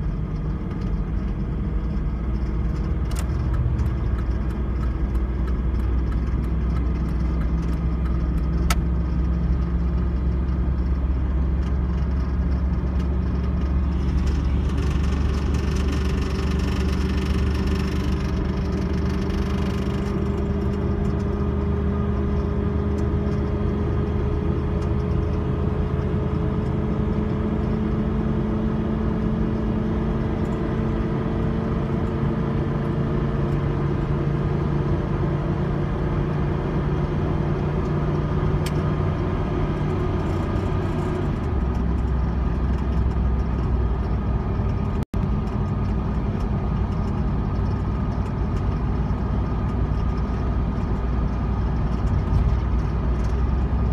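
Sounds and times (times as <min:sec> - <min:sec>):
road noise: 0:00.0 - 0:53.9
truck engine droning under load: 0:00.0 - 0:53.9.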